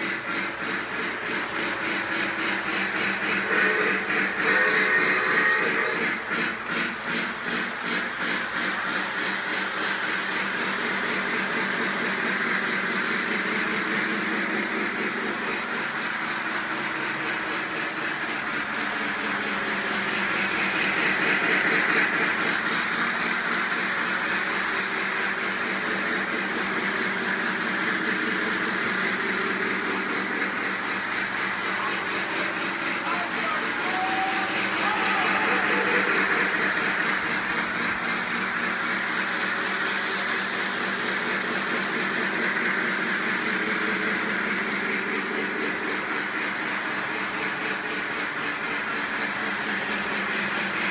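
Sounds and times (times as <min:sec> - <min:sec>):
model train rumble and clatter: 0:00.0 - 0:50.9.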